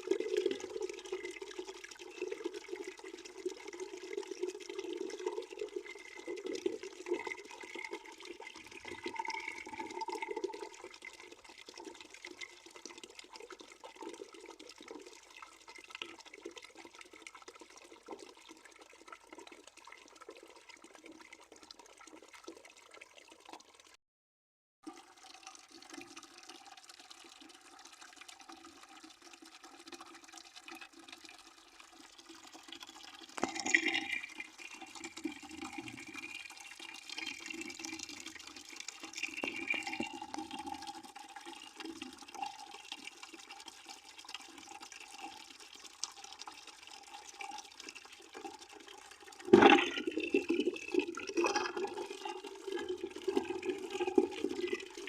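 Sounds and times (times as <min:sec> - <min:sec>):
tap water running into bucket: 0:00.0 - 0:24.0, 0:24.8 - 0:55.0.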